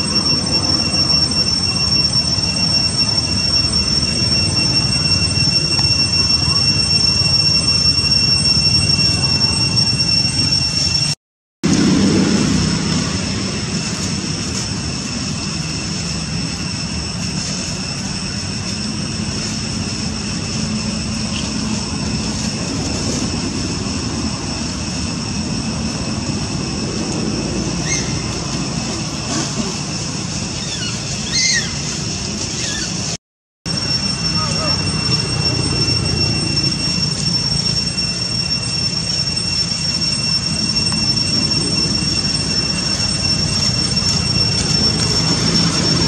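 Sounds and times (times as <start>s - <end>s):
steady high whine: 0.0s - 46.0s.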